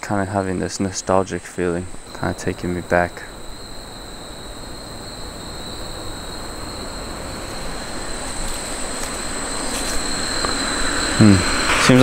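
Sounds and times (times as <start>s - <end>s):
insects calling: 0.0s - 12.0s
broad rushing noise: 1.8s - 12.0s.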